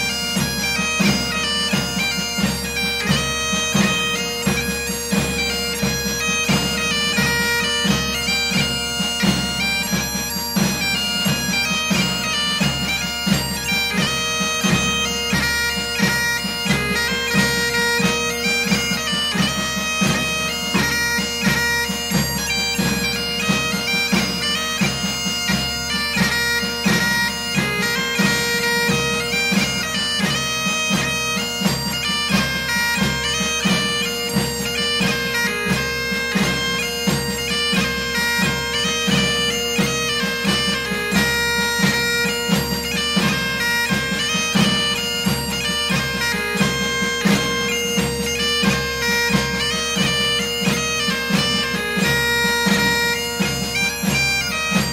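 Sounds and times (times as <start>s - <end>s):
bagpipe music: 0.0s - 54.9s.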